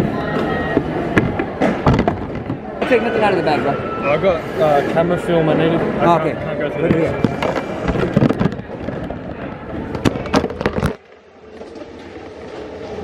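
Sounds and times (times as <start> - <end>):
busy background noise: 0.0 - 13.0.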